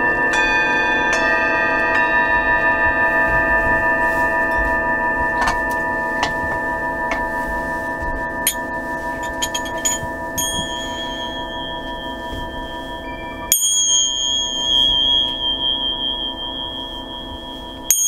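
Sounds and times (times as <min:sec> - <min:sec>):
singing bowls ringing: 0:00.0 - 0:18.0.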